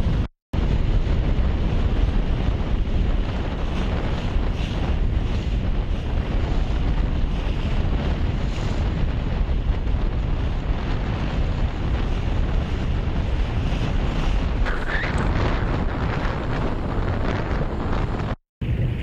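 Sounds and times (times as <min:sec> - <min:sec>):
waves washing: 0:00.0 - 0:18.4
wind buffeting microphone: 0:00.0 - 0:19.0.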